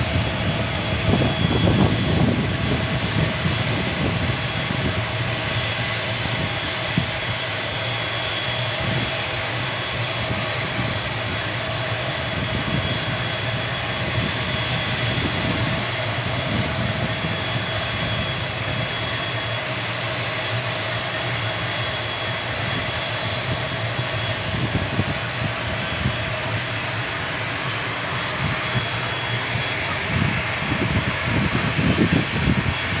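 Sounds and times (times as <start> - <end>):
turboprop engine running: 0.0 - 33.0.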